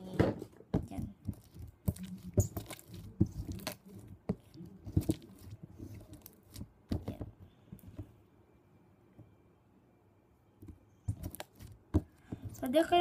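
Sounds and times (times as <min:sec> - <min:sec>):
slime kneaded by hand: 0:00.0 - 0:08.2, 0:10.7 - 0:13.0.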